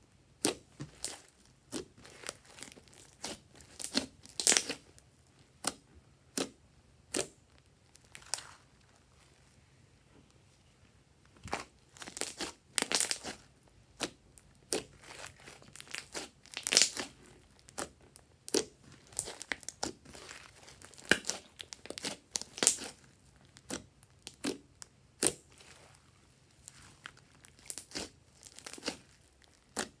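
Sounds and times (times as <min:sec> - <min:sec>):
slime popping and crackling: 0:00.4 - 0:04.9, 0:05.6 - 0:08.6, 0:11.4 - 0:26.0, 0:26.6 - 0:30.0.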